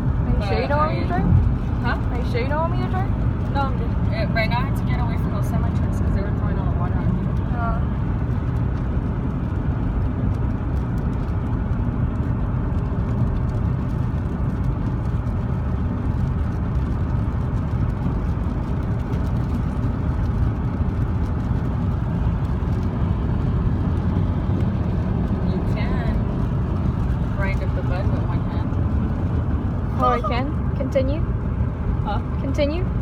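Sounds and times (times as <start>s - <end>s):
car road noise on wet pavement: 0.0s - 33.0s.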